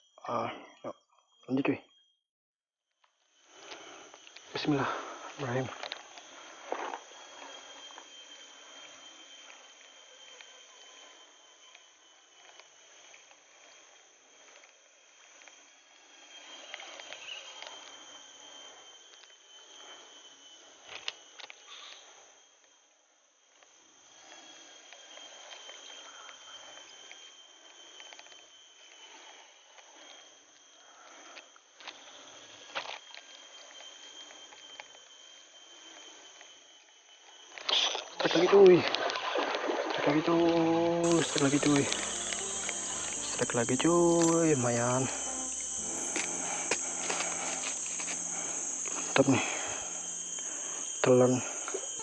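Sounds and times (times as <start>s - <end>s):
insects chirring: 0.0s - 2.1s, 3.0s - 52.0s.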